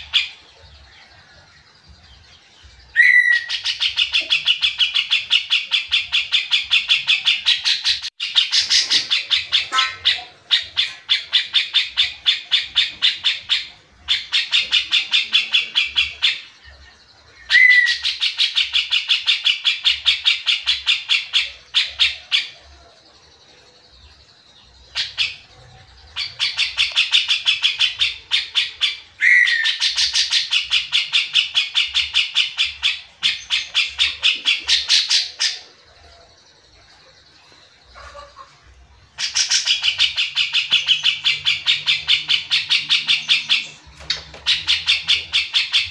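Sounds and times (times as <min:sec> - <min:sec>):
bird singing rapid chattering runs: 0:01.5 - 0:45.9.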